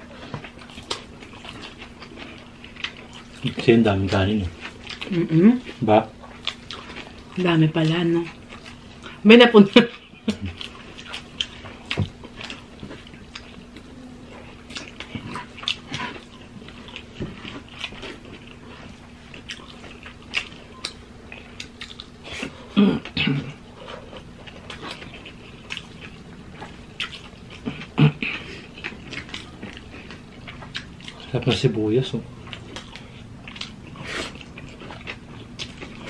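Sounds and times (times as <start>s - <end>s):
wet chewing: 0.1s - 36.0s.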